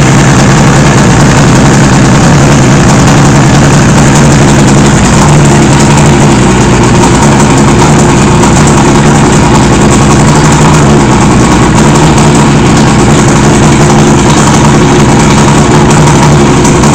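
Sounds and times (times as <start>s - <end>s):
outboard motor idling: 0.0s - 16.9s.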